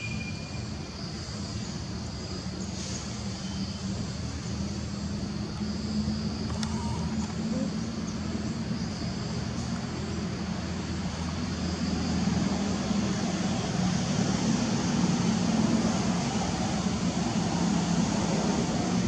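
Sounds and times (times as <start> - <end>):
distant engine drone: 0.0 - 19.0.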